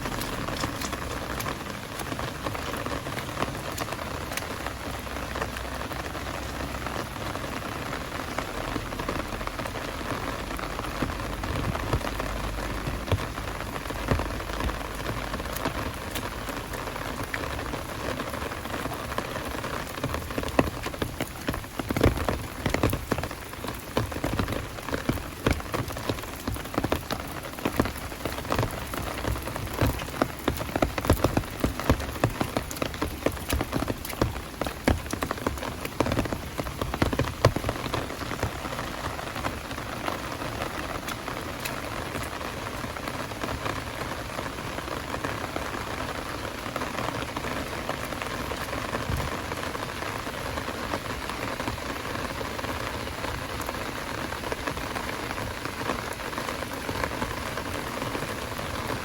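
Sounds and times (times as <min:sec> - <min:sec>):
heavy rain falling: 0:00.0 - 0:59.0
sharp raindrop impacts: 0:00.0 - 0:59.0.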